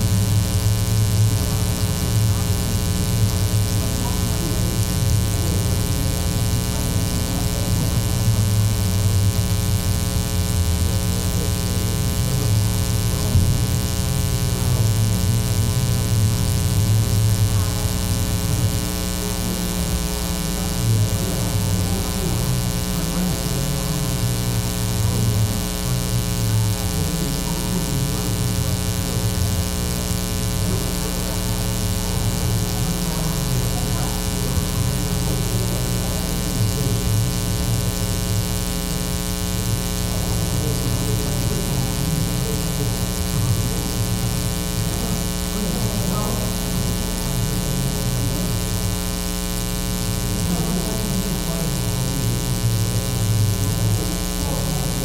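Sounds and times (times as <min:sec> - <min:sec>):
electrical mains hum: 0:00.0 - 0:55.0
muffled low murmuring: 0:00.0 - 0:55.0.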